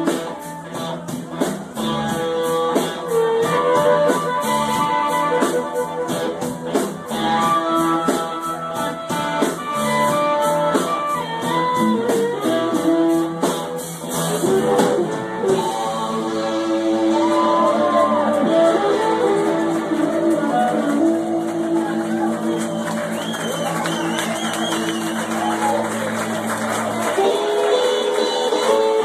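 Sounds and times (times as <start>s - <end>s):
drums beating on cymbals: 0.0s - 29.0s
electric guitar with bent notes: 0.0s - 29.0s.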